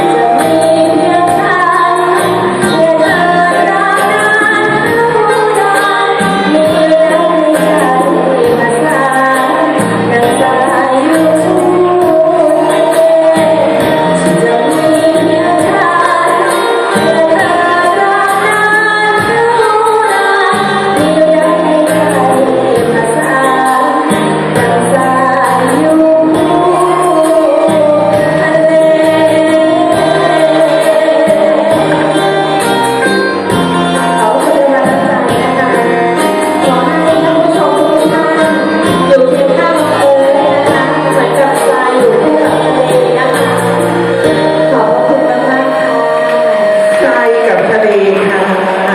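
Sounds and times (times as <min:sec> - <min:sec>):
band playing with steady beat: 0:00.0 - 0:48.9
person singing: 0:00.0 - 0:48.9.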